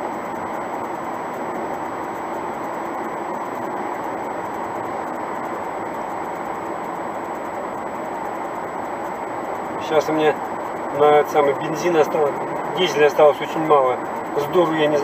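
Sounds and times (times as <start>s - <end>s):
car cabin road and engine hum: 0.0s - 15.0s.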